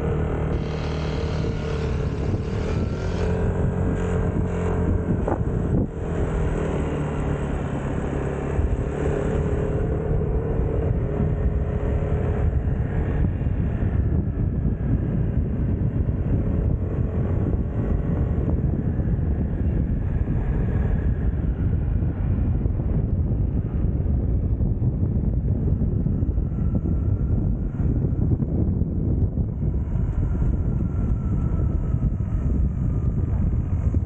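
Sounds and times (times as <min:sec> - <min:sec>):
scooter engine cruising: 0:00.0 - 0:34.0
wind and road rumble: 0:00.0 - 0:34.0.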